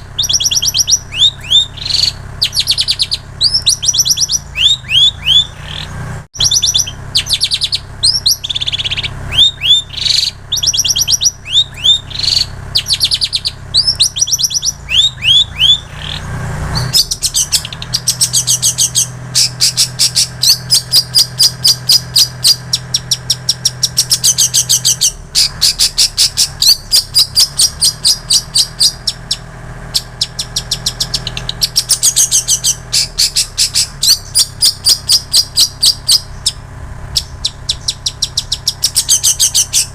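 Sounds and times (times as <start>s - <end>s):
bird singing whistles and chirps: 0.0s - 36.6s, 37.2s - 39.9s.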